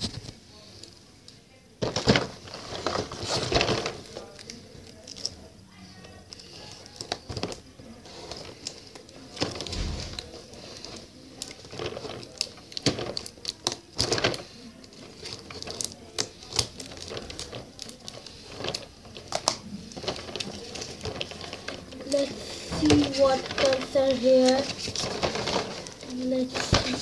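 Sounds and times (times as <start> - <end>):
cardboard crackling: 1.8 - 5.3, 6.2 - 27.0.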